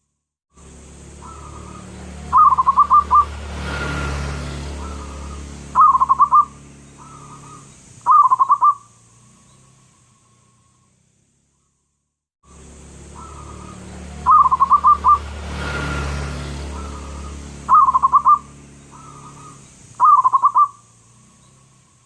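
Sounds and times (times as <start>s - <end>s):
low hum and hiss: 0.5s - 3.5s, 4.4s - 22.0s
dove cooing and rolling song: 0.9s - 10.8s, 12.6s - 21.5s.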